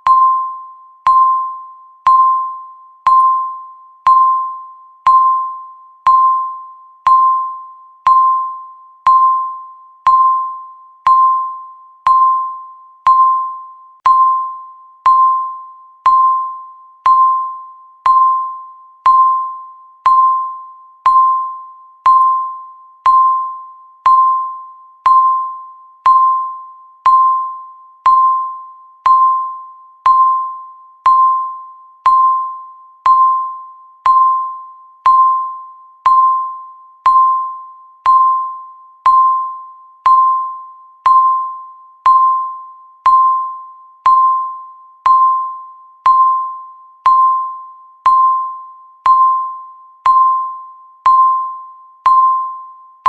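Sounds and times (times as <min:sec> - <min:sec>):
timer beeps: 0:00.0 - 0:53.0.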